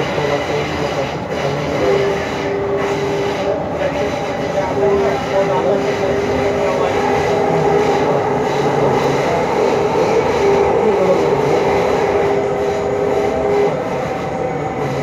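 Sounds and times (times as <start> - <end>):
train wheels rumbling on rail: 0.0 - 15.0
train whine: 0.0 - 15.0.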